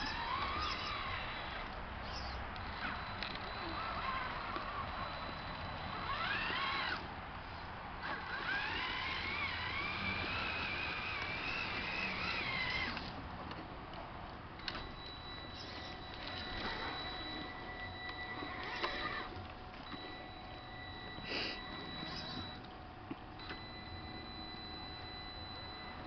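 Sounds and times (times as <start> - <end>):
electric motor and gear whine: 0.0 - 13.6, 14.5 - 26.0.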